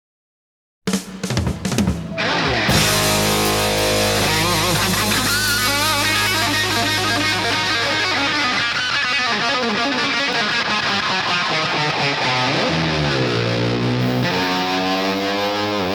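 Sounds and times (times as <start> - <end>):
electric guitar rock music: 1.3 - 15.9.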